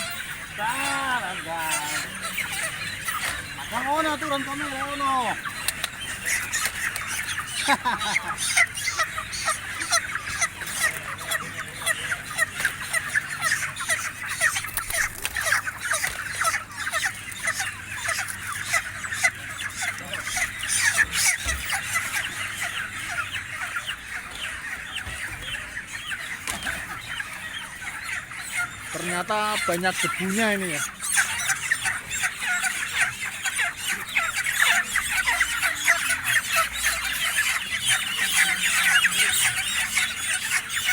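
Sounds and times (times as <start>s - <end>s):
chickens clucking and squawking: 0.0s - 40.9s.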